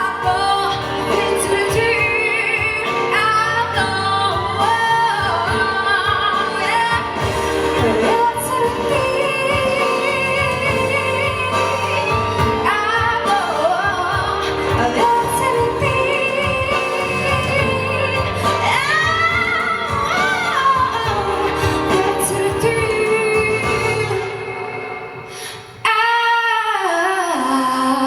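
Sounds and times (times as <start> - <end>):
instrumental accompaniment: 0.0 - 25.9.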